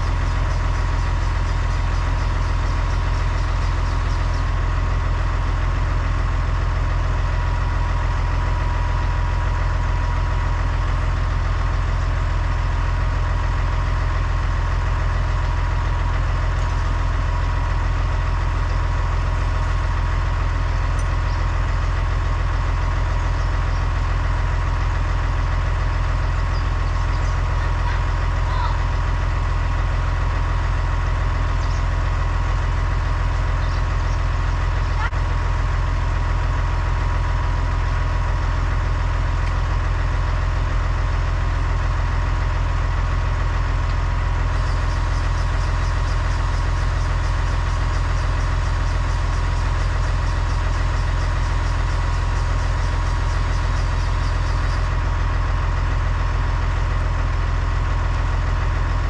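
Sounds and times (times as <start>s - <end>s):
tractor diesel engine idling: 0.0s - 59.0s.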